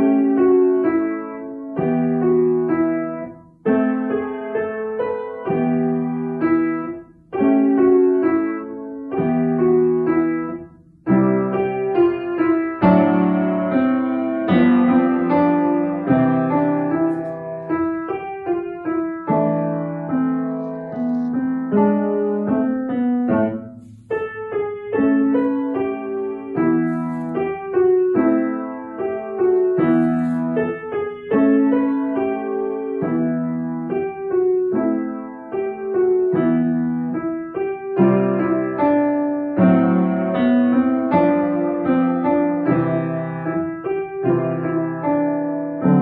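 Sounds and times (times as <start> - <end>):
upright piano playing: 0.0 - 46.0.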